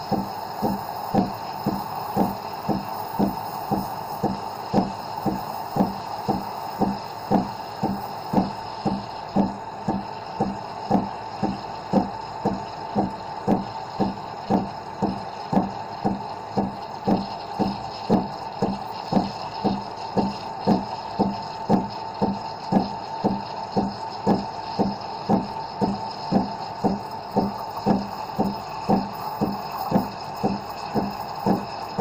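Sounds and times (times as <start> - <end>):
steam wand frothing milk: 0.0 - 32.0.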